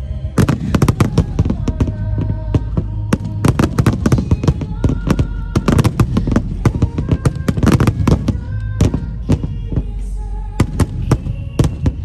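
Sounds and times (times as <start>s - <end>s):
deep rumble: 0.0s - 12.0s
fireworks bangs and crackles: 0.0s - 12.0s
music playing: 0.0s - 12.0s.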